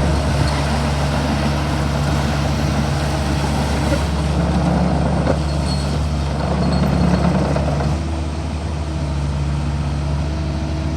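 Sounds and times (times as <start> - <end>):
excavator diesel engine running: 0.0 - 10.9.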